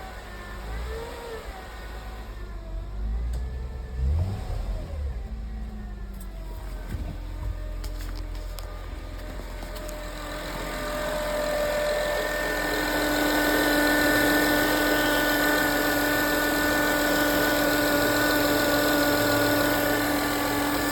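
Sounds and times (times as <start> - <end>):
alternator whirring: 0.0 - 20.9
car engine idling: 0.0 - 20.9.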